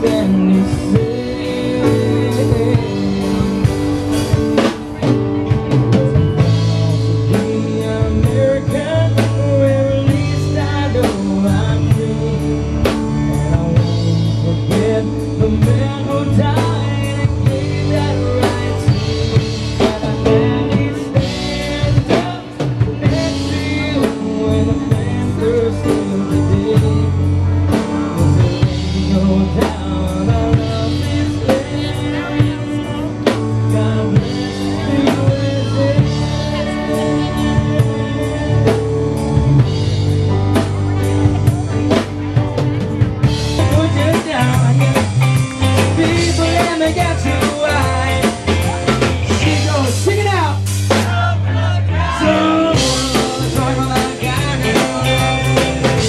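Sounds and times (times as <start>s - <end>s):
drum kit beat: 0.0s - 56.0s
live rock band playing: 0.0s - 56.0s
person singing: 0.0s - 56.0s.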